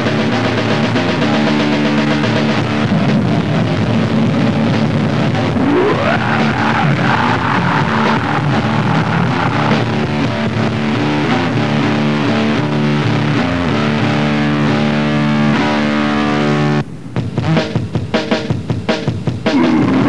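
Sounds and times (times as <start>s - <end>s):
distorted electric guitar chords: 0.0s - 20.0s.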